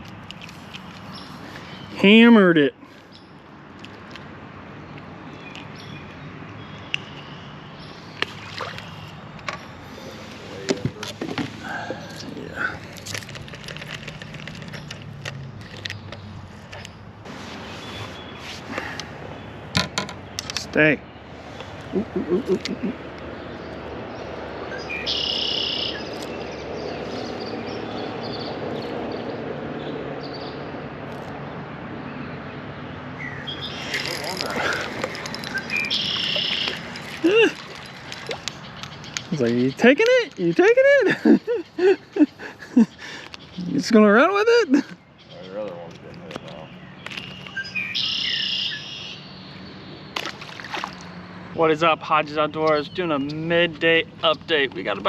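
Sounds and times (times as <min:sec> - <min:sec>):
small boat on water: 0:00.0 - 0:55.0.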